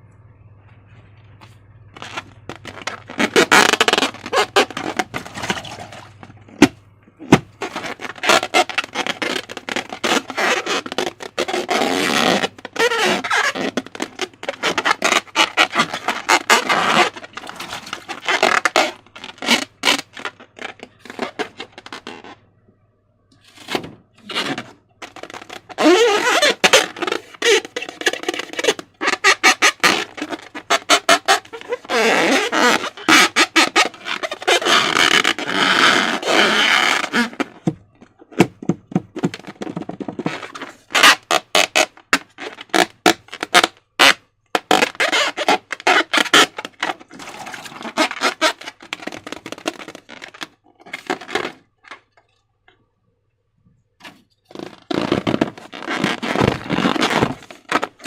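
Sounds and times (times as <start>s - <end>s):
rubbery squeaks: 1.9s - 22.4s, 23.4s - 52.2s, 54.0s - 58.0s.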